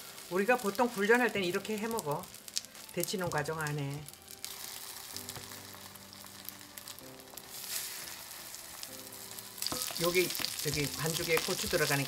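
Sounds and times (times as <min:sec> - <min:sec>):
pancakes sizzling in oil: 0:00.0 - 0:12.0
soft background music chords: 0:00.0 - 0:12.0.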